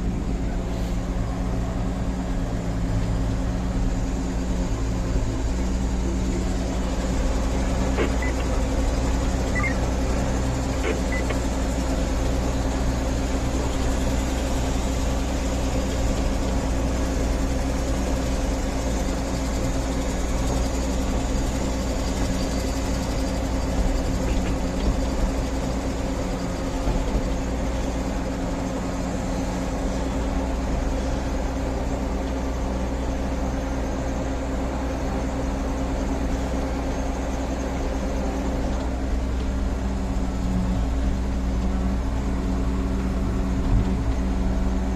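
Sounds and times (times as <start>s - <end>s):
heavy machine engine running: 0.0s - 44.9s.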